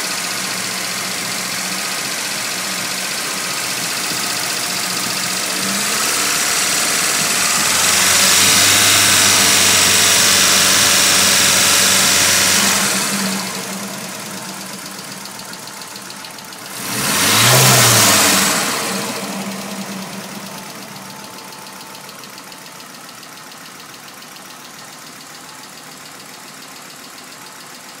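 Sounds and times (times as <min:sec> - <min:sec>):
car engine revving and idling: 0:00.0 - 0:28.0.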